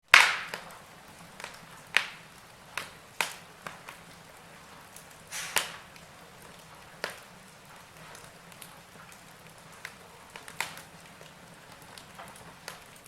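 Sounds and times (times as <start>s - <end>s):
wood fire crackling and popping: 0.0s - 13.0s
faint steady hiss: 0.1s - 13.0s.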